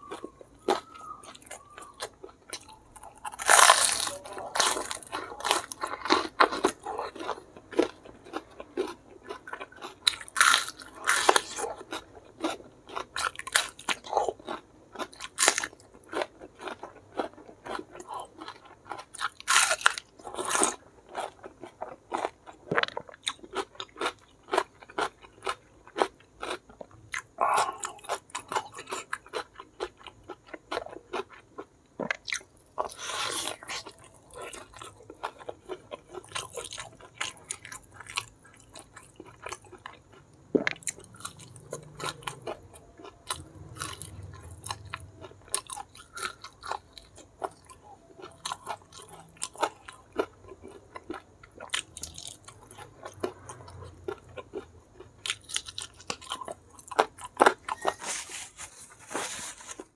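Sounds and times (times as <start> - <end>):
crunchy bites and chewing: 0.0 - 59.9.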